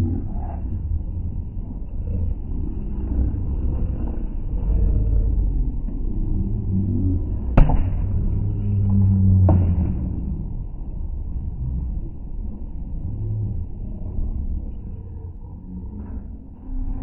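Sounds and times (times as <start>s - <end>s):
low muffled crowd rumble: 0.0s - 17.0s.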